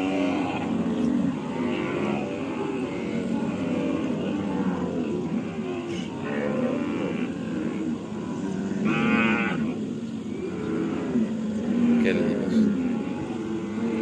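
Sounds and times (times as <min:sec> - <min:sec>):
cattle mooing: 0:00.0 - 0:14.0.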